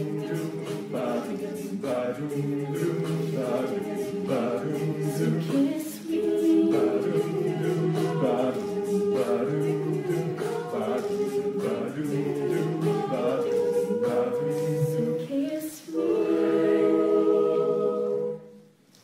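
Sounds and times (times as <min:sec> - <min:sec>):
a cappella group singing: 0:00.0 - 0:18.8.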